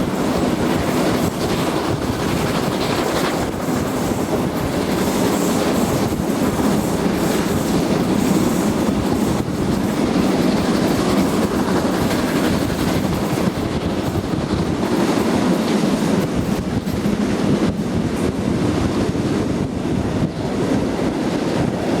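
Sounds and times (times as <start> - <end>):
train rolling on track: 0.0 - 22.0.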